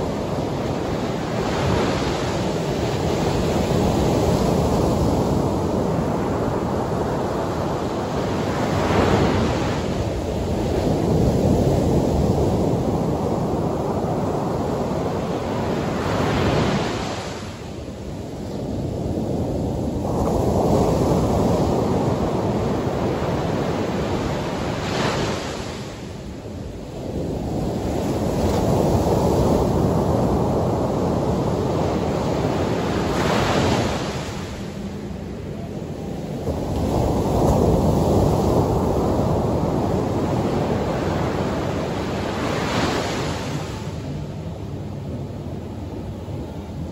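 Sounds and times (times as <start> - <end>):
waves crashing: 0.0 - 46.9.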